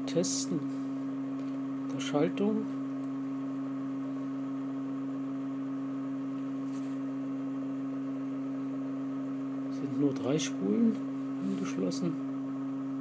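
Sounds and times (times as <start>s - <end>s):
steady pitched motor hum: 0.0s - 13.0s.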